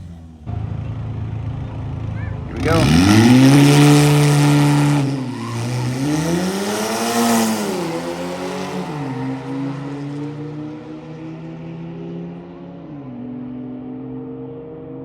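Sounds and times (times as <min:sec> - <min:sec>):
car engine at full throttle: 0:00.0 - 0:15.0.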